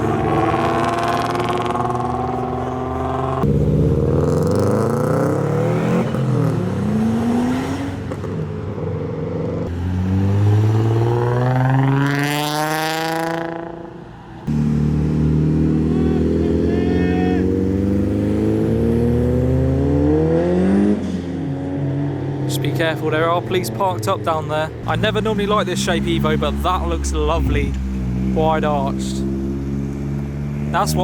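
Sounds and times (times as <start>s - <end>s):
car revving past: 0.0s - 8.5s, 9.4s - 22.5s, 24.9s - 31.0s
car engines accelerating: 0.0s - 31.0s.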